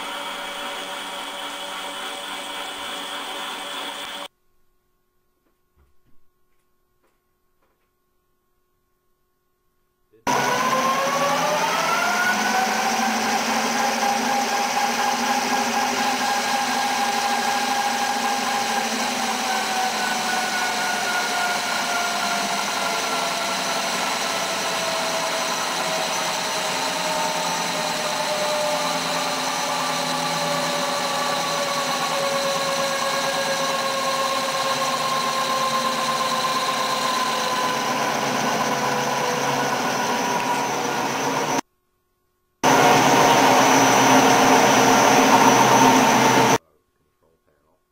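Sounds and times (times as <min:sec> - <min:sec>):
lathe boring metal with whine: 0:00.0 - 0:04.3, 0:10.3 - 0:41.6, 0:42.6 - 0:46.6.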